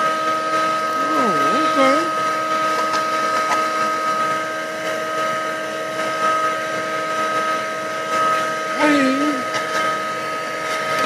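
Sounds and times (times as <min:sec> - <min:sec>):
car vacuum cleaner whining: 0:00.0 - 0:11.0.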